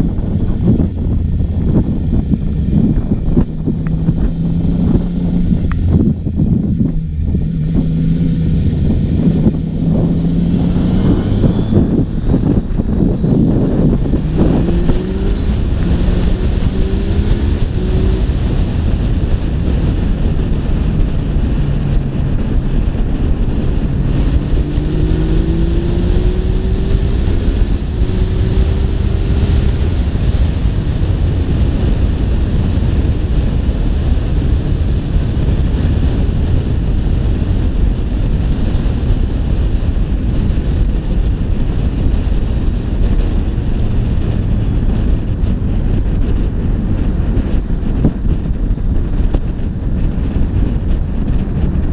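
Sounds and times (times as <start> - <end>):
motorcycle engine accelerating: 0.0 - 51.9
wind buffeting on microphone: 0.0 - 51.9.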